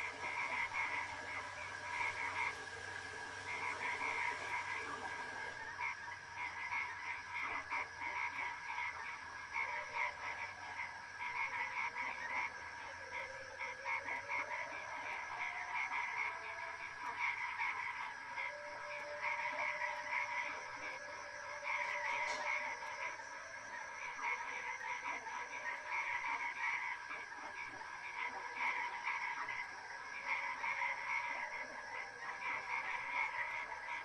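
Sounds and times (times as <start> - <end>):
frogs croaking: 0.0 - 34.0.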